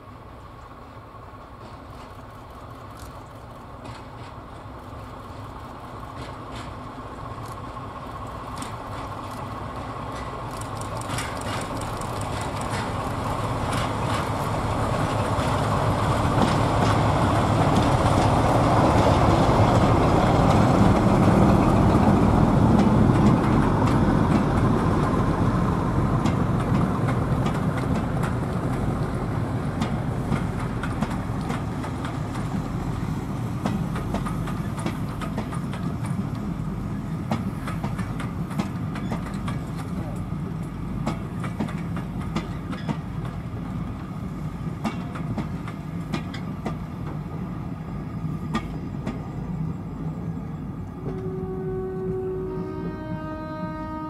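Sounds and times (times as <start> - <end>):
diesel locomotive engines passing: 0.0 - 54.0
train wheels clattering over rail joints: 1.4 - 51.4.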